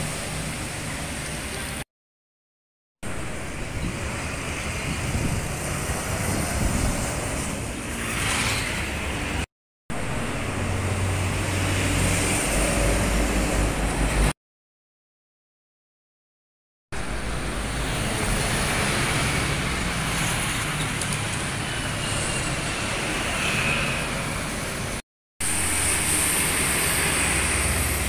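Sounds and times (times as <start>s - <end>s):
traffic engine drone: 0.0s - 1.8s, 3.0s - 14.3s, 17.0s - 28.0s.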